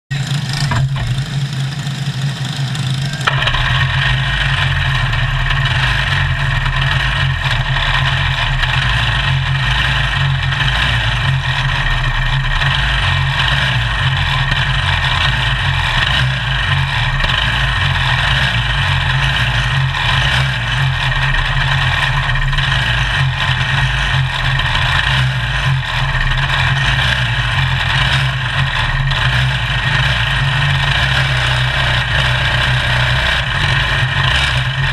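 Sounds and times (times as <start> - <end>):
small race car engines idling: 0.0 - 34.9
loud engine starting and idling: 0.1 - 34.9.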